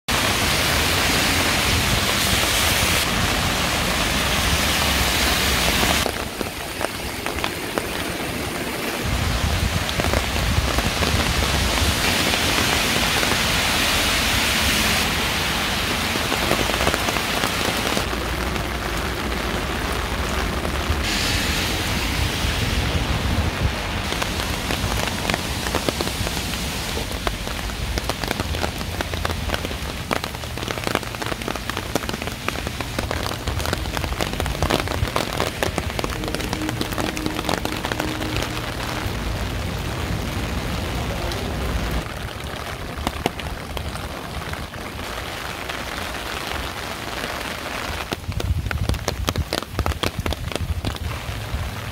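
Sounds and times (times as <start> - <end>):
steady rain falling: 0.1 - 51.9.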